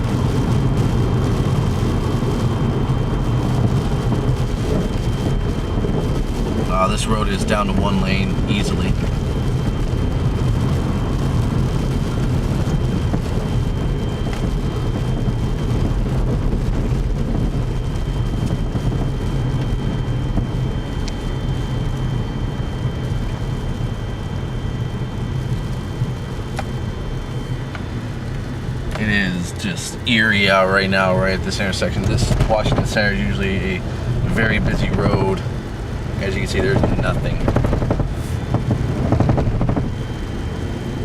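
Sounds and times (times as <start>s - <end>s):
car engine hum: 0.0s - 41.0s
tyres rumbling on snowy road: 0.0s - 41.0s
faint high whine: 0.3s - 41.0s.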